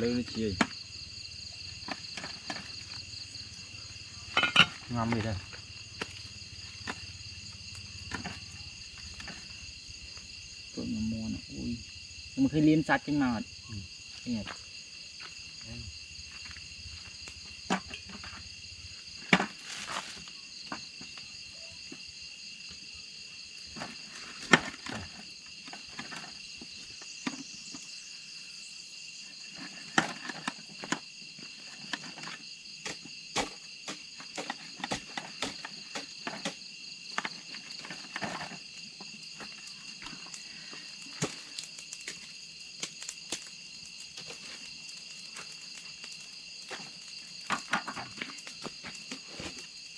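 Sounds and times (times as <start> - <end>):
night insects chorus: 0.0 - 49.9.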